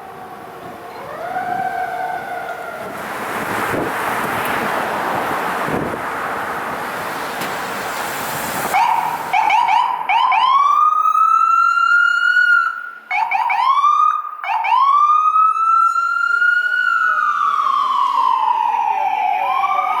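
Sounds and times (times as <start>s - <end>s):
emergency vehicle siren wailing: 0.0s - 6.0s, 8.3s - 20.0s.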